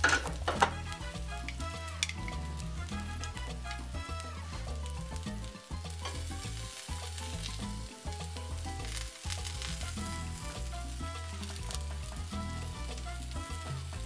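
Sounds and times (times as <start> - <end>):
background music with bass line: 0.0 - 14.0
omelette sizzling in frying pan: 0.0 - 14.0.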